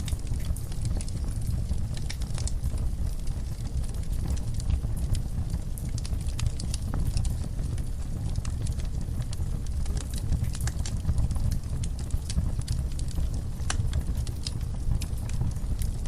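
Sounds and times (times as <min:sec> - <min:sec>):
logs crackling in fire: 0:00.0 - 0:16.0.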